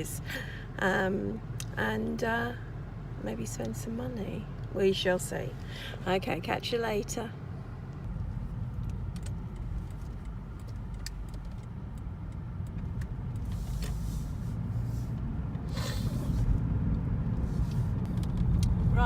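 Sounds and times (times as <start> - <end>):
engine and tyre rumble: 0.0 - 19.0.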